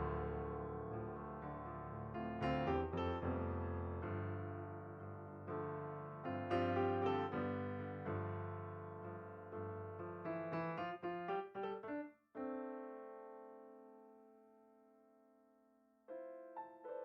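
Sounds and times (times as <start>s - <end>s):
calm slow piano music: 0.0s - 17.0s.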